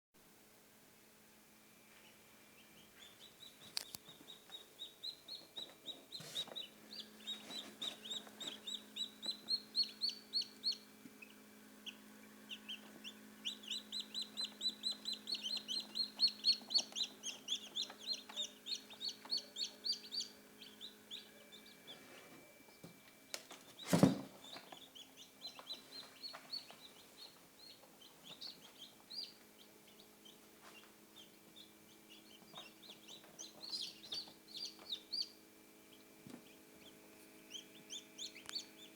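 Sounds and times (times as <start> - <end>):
low steady hum: 0.2 - 38.9
chicks peeping: 1.9 - 38.9.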